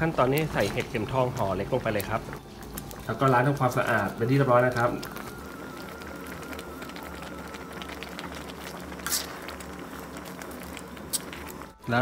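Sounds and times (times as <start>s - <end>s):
curry bubbling in pot: 0.0s - 12.0s.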